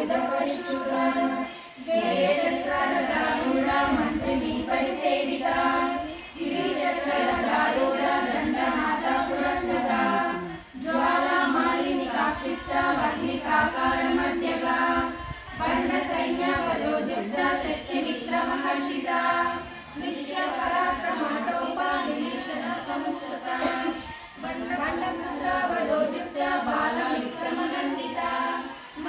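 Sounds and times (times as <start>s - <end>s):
women chanting a hymn: 0.0s - 29.0s.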